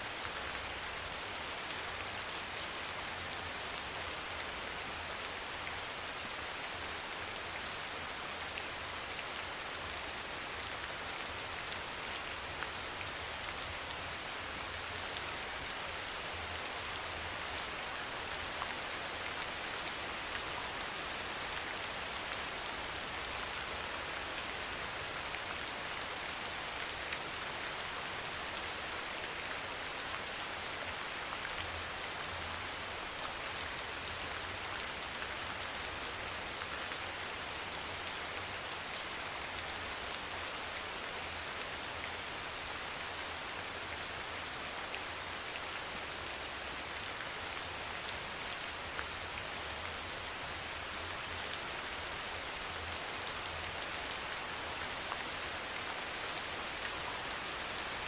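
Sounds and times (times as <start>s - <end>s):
soft rain falling: 0.0s - 58.0s.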